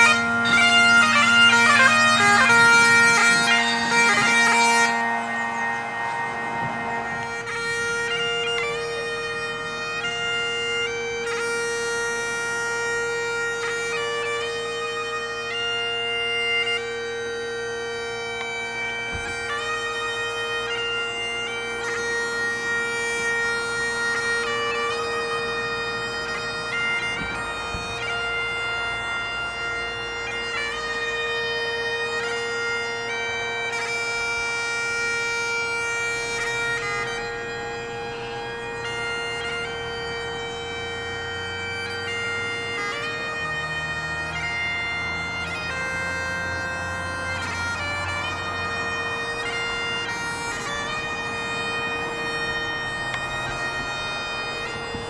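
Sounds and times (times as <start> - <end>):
bagpipe playing: 0.0 - 55.0.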